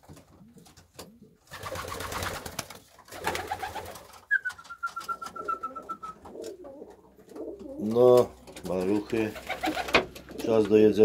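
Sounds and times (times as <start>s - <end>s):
pigeons rustling and flapping: 0.0s - 11.0s.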